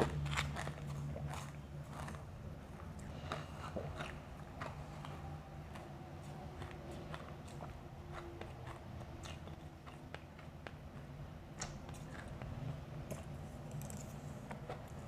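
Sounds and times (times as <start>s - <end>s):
chewing crunchy ice: 0.0s - 15.0s
steady low hum: 0.0s - 15.0s.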